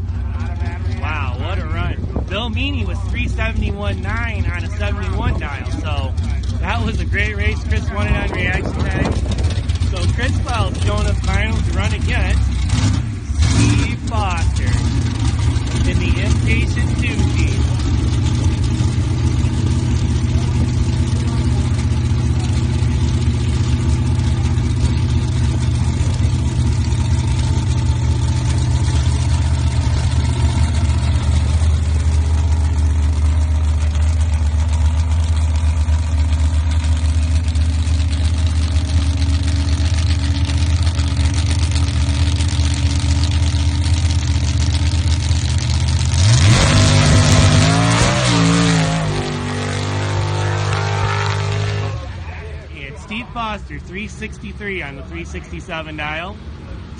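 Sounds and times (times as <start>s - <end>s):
racing engine idling and revving: 0.0s - 56.9s.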